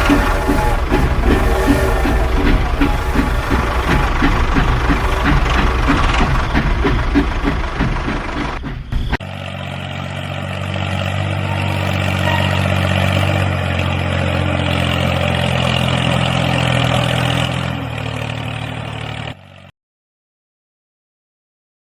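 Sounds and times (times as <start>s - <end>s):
tractor engine running: 0.0s - 19.7s.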